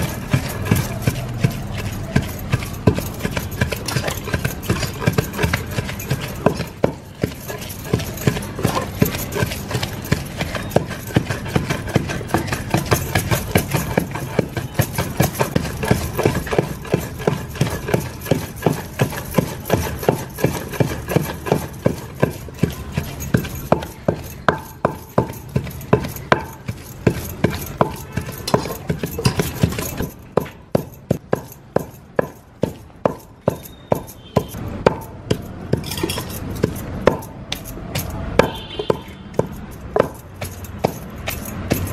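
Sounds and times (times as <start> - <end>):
knocks of food preparation: 0.0 - 41.9.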